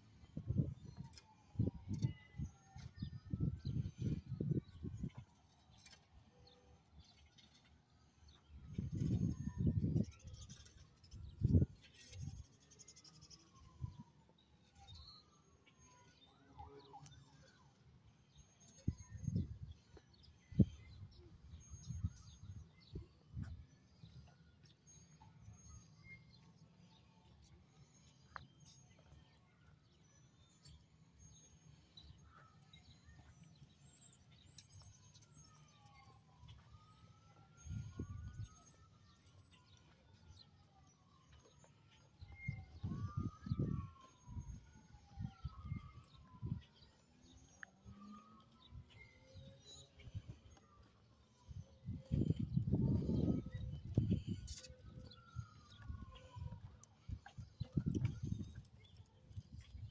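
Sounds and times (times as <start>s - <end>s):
faint siren wailing: 0.0s - 59.9s.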